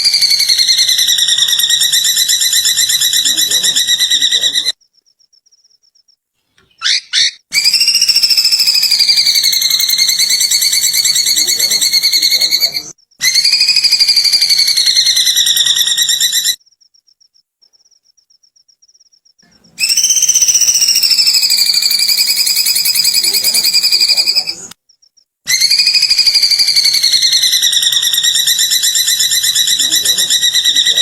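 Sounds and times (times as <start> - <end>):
bird rattling calls: 0.0 - 4.8, 6.7 - 16.6, 19.8 - 24.7, 25.5 - 31.0.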